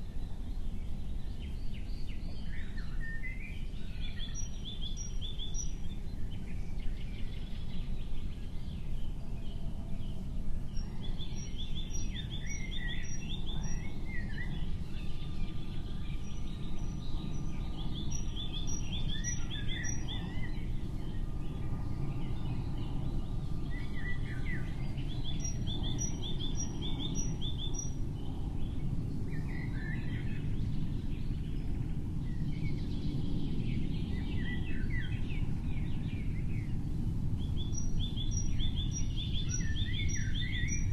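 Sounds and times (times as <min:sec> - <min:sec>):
low background rumble: 0:00.0 - 0:40.9
small birds chirping: 0:00.0 - 0:40.9.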